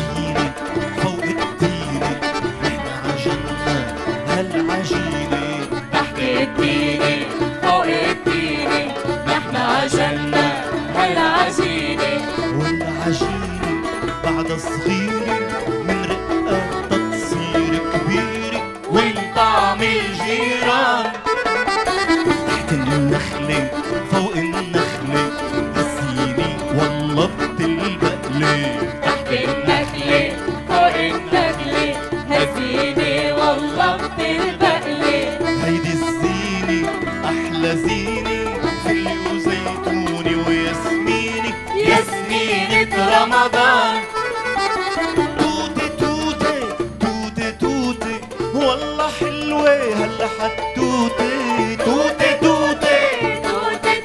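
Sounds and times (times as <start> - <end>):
man singing into a microphone: 0.0 - 21.2, 22.5 - 33.8, 35.2 - 44.1, 45.2 - 54.0
accordion: 0.0 - 54.0
bass: 0.0 - 54.0
hand percussion: 0.0 - 54.0
live ensemble music: 0.0 - 54.0
plucked buzuq and qanun: 0.0 - 54.0.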